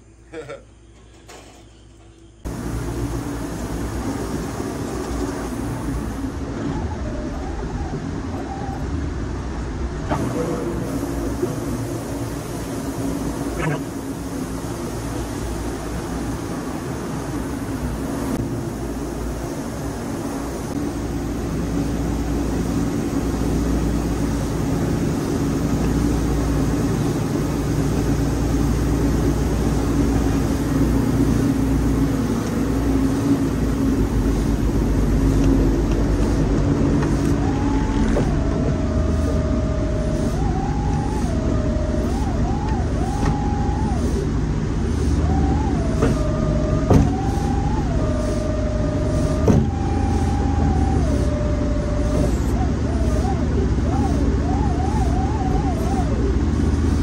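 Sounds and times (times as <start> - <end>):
machine whine changing pitch: 2.4 - 57.0
sawmill engine running: 2.5 - 57.0.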